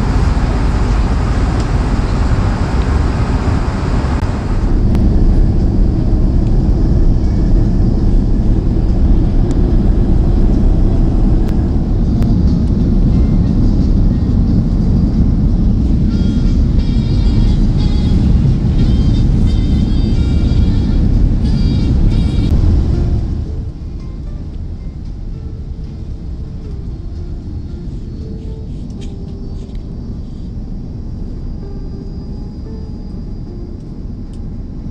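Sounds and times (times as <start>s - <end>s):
aircraft cabin rumble: 0.0s - 34.9s.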